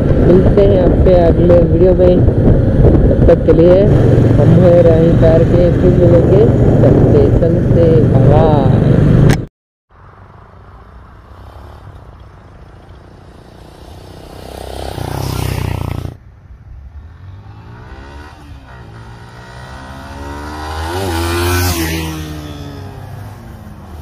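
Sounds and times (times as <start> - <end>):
traffic passing on road: 0.0 - 24.0
motorcycle engines approaching: 1.8 - 9.4, 10.3 - 24.0.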